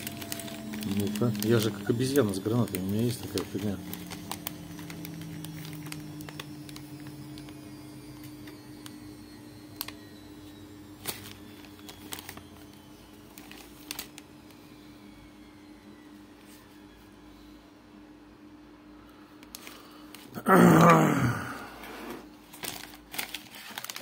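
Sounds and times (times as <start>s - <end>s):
steady low hum: 0.0s - 23.3s.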